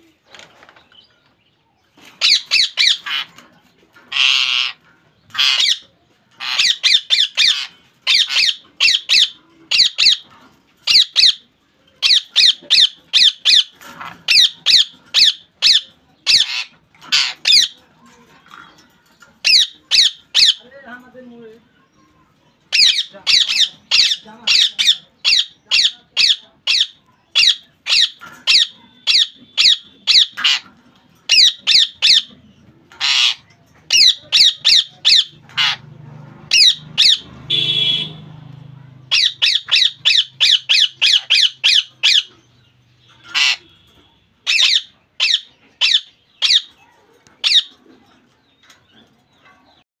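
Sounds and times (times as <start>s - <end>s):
parrot squawking: 2.2s - 3.4s, 4.0s - 17.9s, 19.4s - 20.7s, 22.6s - 38.3s, 39.0s - 47.8s.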